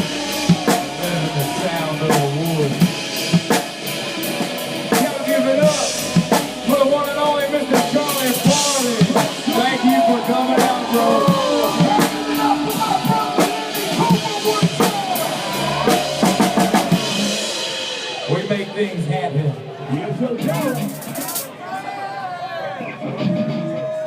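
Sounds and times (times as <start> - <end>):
drum kit beat: 0.0 - 19.1, 20.2 - 21.5
live band music: 0.0 - 21.6.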